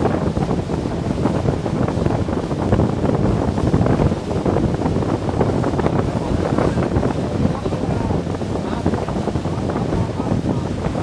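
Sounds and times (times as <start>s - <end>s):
sea water: 0.0s - 11.0s
wind buffeting microphone: 0.0s - 11.0s.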